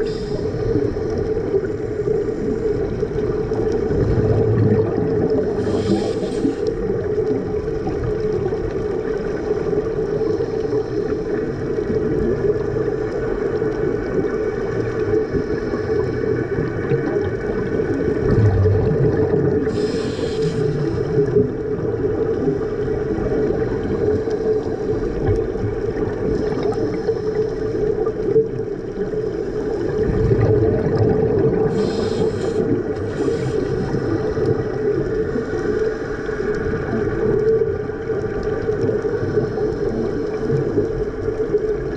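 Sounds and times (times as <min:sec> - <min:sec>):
boat engine droning underwater: 0:00.0 - 0:41.9.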